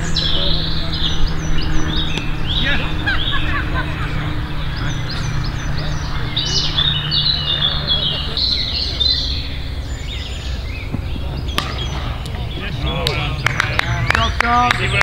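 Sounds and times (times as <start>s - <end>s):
low steady background rumble: 0.0s - 15.0s
songbirds chirping and whistling: 0.0s - 15.0s.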